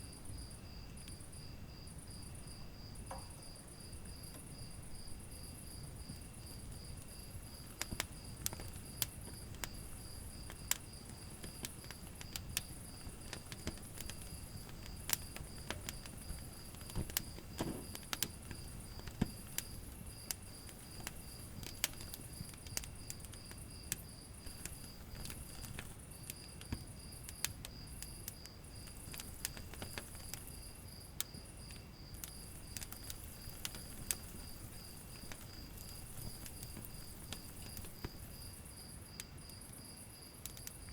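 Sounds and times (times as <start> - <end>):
low rumble of flame: 0.0 - 40.9
wood fire crackling: 0.0 - 40.9.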